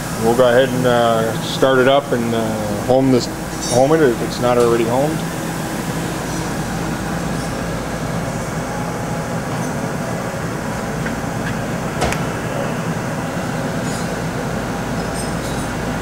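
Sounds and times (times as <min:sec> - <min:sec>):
lathe mechanical hum: 0:00.0 - 0:16.0.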